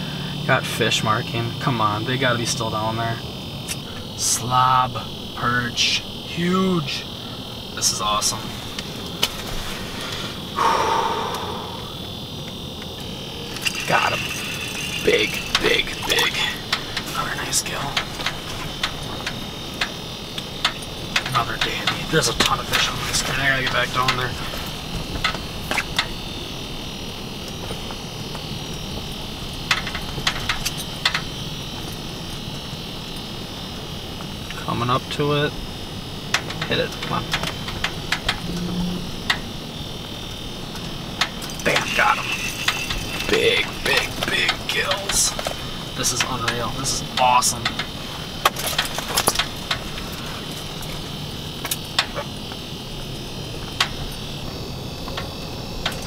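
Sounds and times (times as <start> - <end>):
propane heater hissing: 0.0 - 56.0
steady low hum: 0.0 - 56.0.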